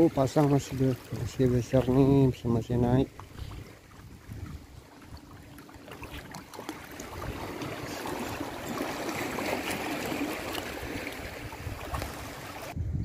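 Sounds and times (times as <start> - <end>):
small waves splashing on rocks: 0.0 - 4.1, 4.8 - 12.8.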